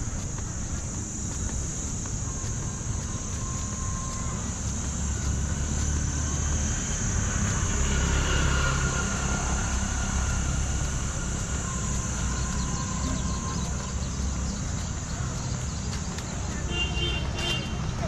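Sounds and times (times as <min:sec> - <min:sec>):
vehicle engines rumbling: 0:00.0 - 0:18.0.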